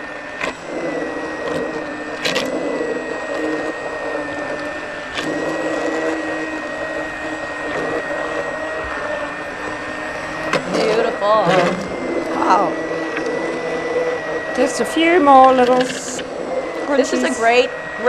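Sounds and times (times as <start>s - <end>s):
immersion blender running: 0.0s - 18.0s.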